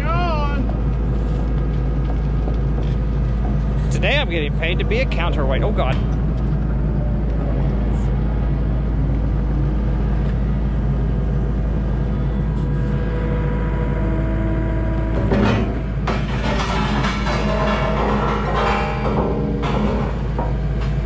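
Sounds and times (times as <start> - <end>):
heavy machinery engine droning: 0.0 - 21.0.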